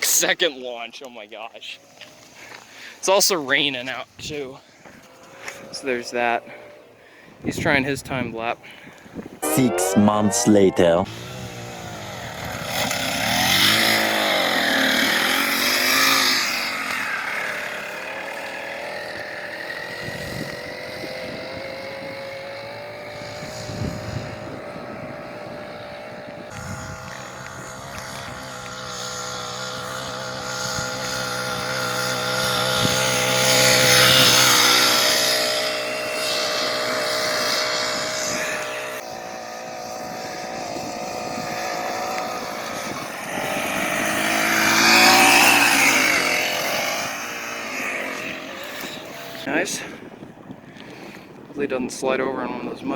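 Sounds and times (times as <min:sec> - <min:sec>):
small gasoline engine revving: 0:03.5 - 0:08.7, 0:09.4 - 0:50.2.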